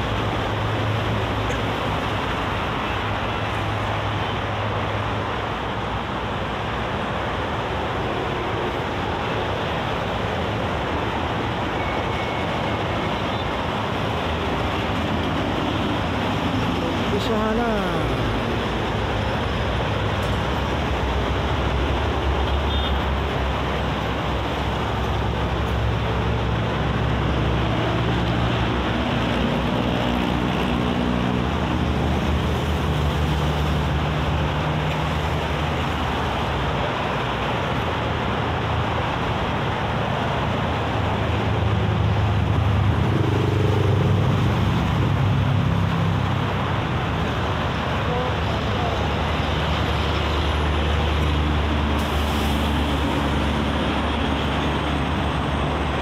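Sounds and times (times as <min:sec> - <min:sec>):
expressway traffic: 0:00.0 - 0:56.0.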